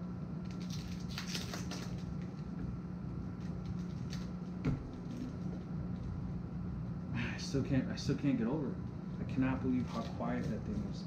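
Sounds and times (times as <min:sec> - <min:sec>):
air compressor humming: 0:01.9 - 0:11.0.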